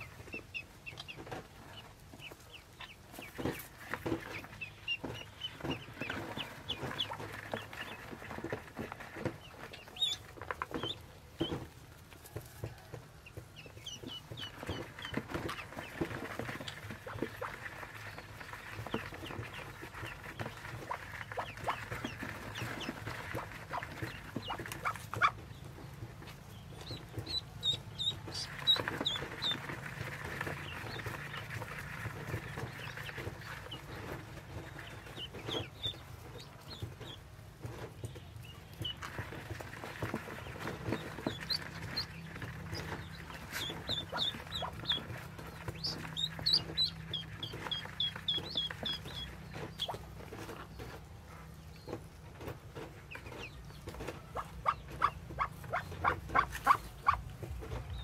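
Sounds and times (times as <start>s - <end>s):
ducklings peeping: 0.0s - 11.8s, 12.6s - 58.0s.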